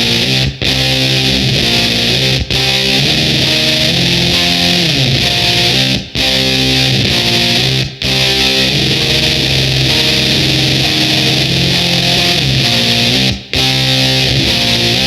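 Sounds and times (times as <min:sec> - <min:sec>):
fuzzed electric guitar: 0:00.0 - 0:15.0.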